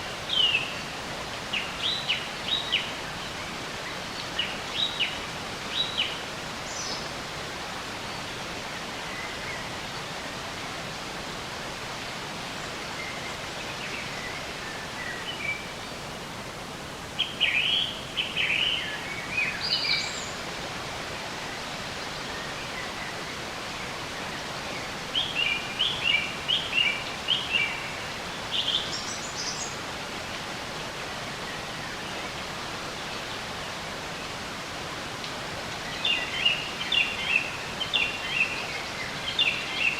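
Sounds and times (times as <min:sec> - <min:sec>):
steady background hiss: 0:00.0 - 0:39.9
wild birds chirping: 0:00.0 - 0:39.9.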